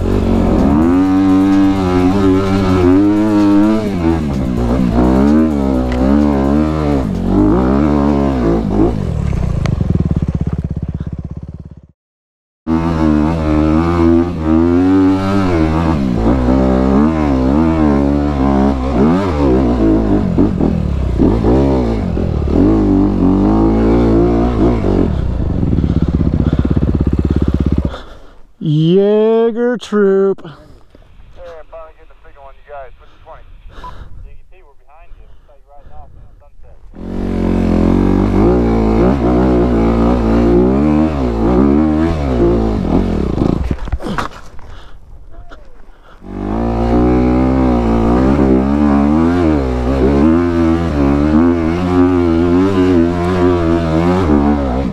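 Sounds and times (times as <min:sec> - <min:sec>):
dirt bike engine revving: 0:00.0 - 0:11.9, 0:12.7 - 0:28.8, 0:36.8 - 0:44.3, 0:46.0 - 0:54.9.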